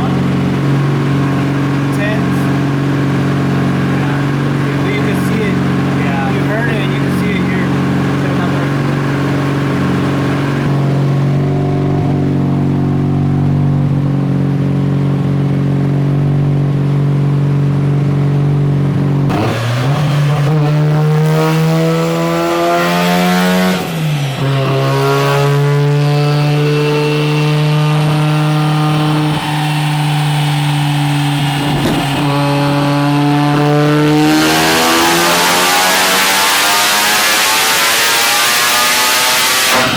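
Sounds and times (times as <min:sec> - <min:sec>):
rotary engine revving on a dyno: 0:00.0 - 0:39.9.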